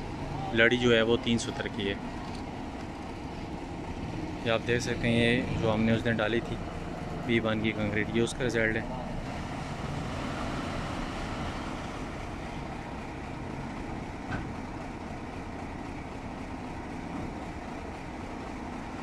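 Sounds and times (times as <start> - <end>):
construction site noise: 0.0 - 19.0
mixer truck engine running: 0.0 - 19.0.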